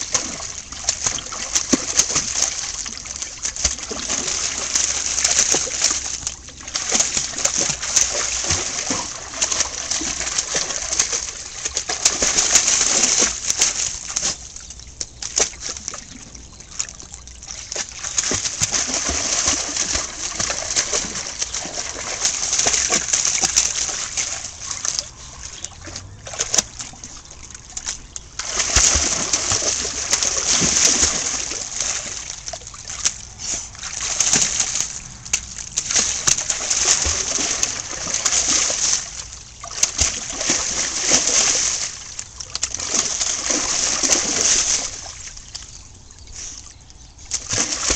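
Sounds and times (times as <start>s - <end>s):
dog splashing in water: 0.0s - 47.9s.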